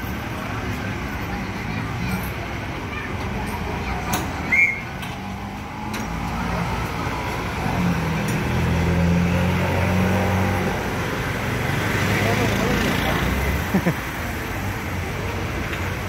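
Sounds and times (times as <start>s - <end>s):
vehicle engines in traffic: 0.0s - 16.0s.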